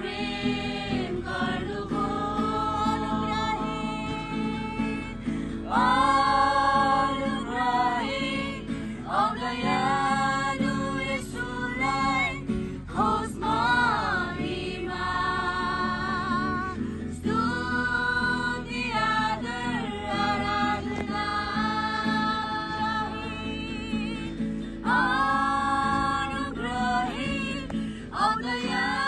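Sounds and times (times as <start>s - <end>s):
acoustic guitar: 0.0s - 29.0s
group singing together: 0.0s - 29.0s.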